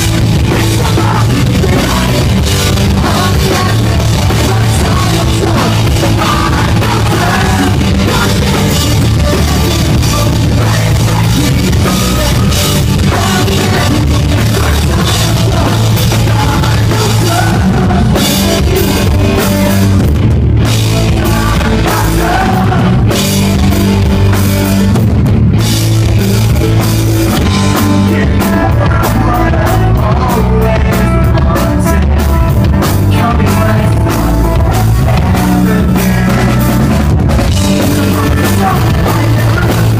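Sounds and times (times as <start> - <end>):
person singing: 0.0 - 20.1, 20.7 - 24.3, 27.4 - 39.9
pop-punk band playing: 0.0 - 39.9.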